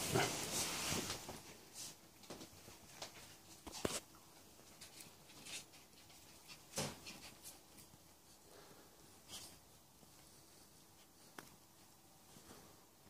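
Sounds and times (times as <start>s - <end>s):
animals scuffling on bedspread: 0.0s - 13.0s.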